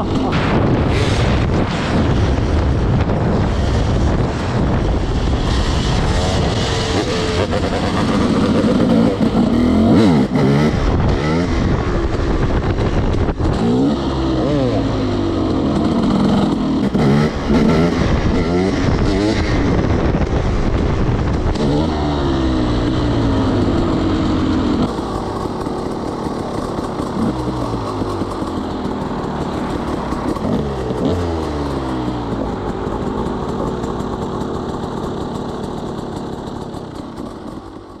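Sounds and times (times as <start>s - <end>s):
two-stroke dirt bike engine revving: 0.0s - 38.0s.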